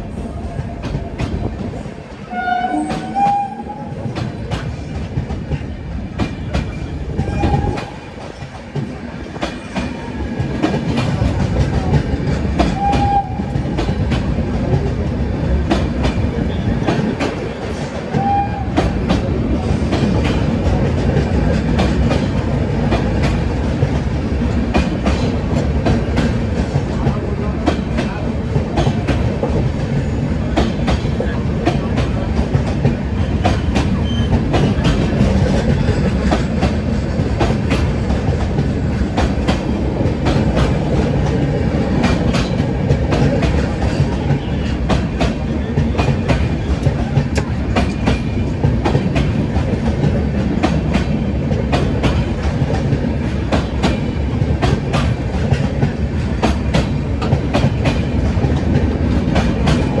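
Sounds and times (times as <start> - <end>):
train wheels clicking on rails: 0.0 - 60.0.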